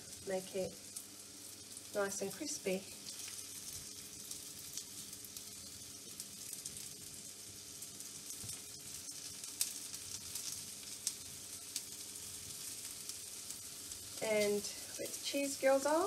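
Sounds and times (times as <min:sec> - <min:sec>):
dumplings sizzling in hot oil: 0:00.0 - 0:16.0.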